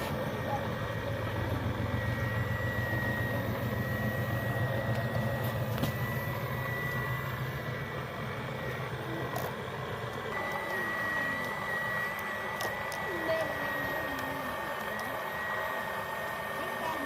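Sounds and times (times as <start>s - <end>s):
electric motor hum: 0.0s - 17.0s
high-pitched whine: 0.0s - 17.0s.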